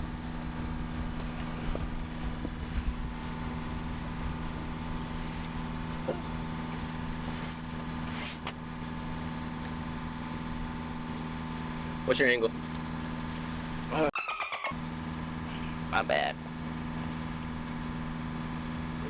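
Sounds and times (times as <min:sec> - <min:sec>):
boat engine droning: 0:00.0 - 0:14.1, 0:14.8 - 0:19.0.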